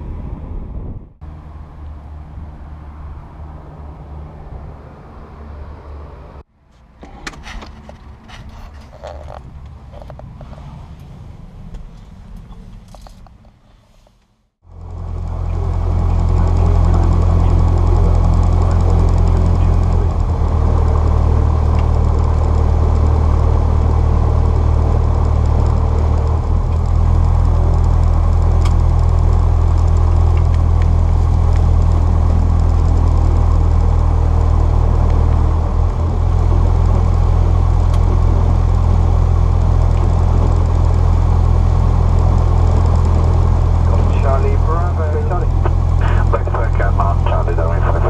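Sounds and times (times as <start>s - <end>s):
propeller plane engine drone: 0.0s - 13.2s, 14.6s - 48.0s.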